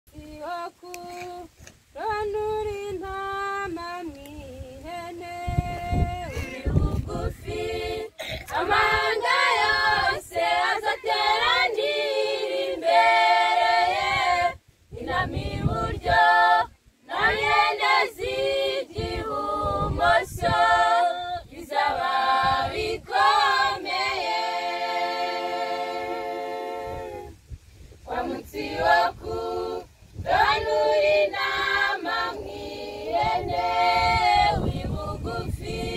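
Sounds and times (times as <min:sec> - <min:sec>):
women's choir singing a hymn: 0:02.0 - 0:35.9.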